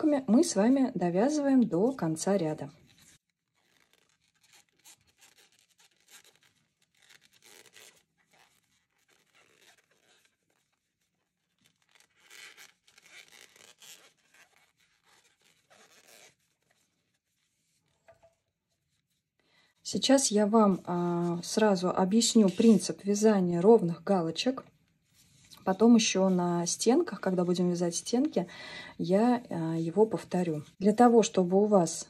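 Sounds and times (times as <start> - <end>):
crochet hook rustling yarn: 0.0 - 19.3, 20.1 - 31.9.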